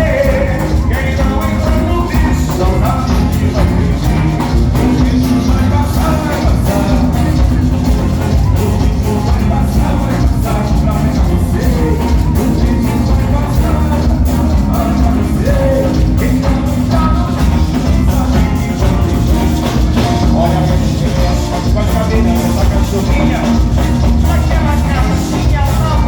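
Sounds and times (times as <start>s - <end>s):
carnival music with drums: 0.0s - 26.0s
people singing: 0.0s - 26.0s.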